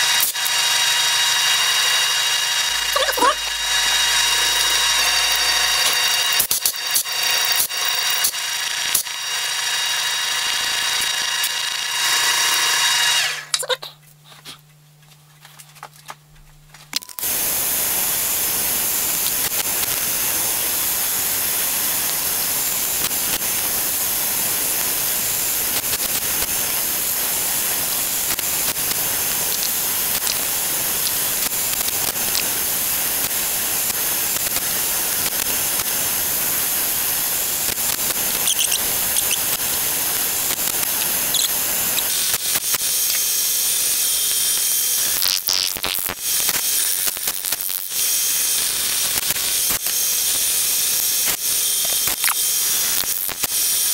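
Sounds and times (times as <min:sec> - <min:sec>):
milling machine whine: 0:00.0 - 0:13.5, 0:17.2 - 0:53.9
milling cutter cutting metal: 0:00.0 - 0:13.6, 0:17.2 - 0:53.9.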